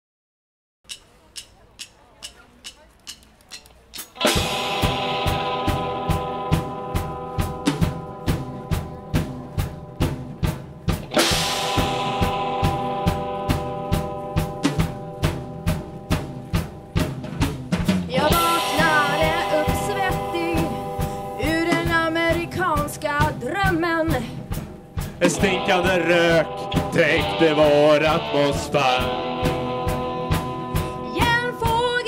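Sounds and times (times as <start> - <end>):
drum kit beat: 0.9 - 32.0
guitar chords: 4.2 - 32.0
keyboard chords: 4.2 - 32.0.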